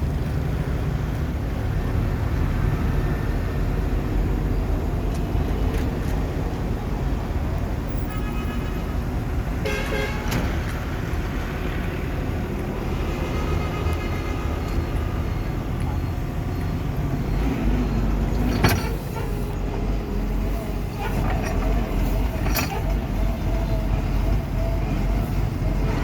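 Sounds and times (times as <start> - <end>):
heavy machine engine rumbling: 0.0 - 26.0.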